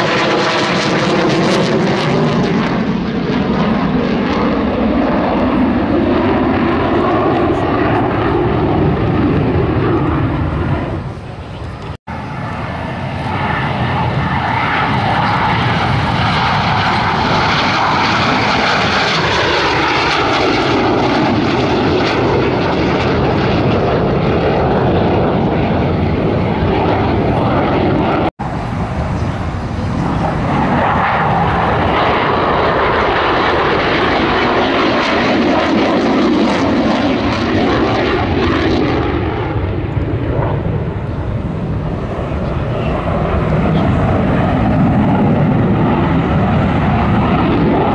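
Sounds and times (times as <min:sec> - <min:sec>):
aircraft engine flying past: 0:00.0 - 0:47.9.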